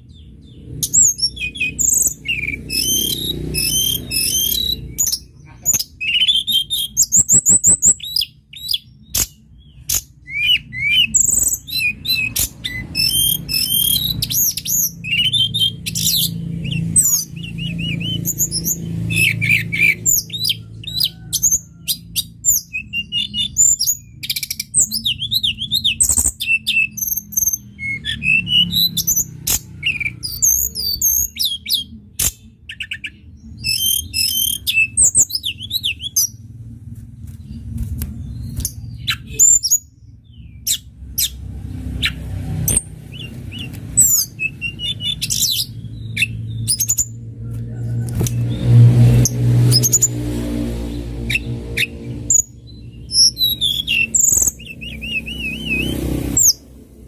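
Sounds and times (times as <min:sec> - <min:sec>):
songbird singing: 0:00.0 - 0:36.5, 0:37.2 - 0:57.0.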